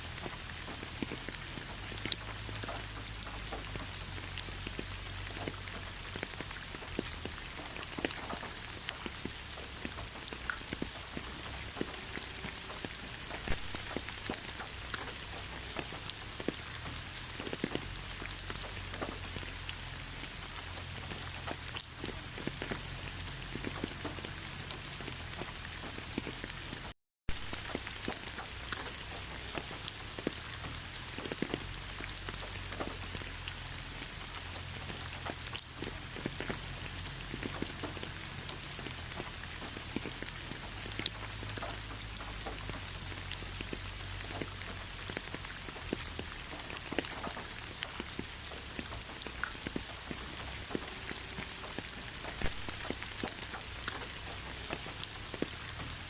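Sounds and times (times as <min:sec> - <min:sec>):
raindrops tapping: 0:00.0 - 0:56.0.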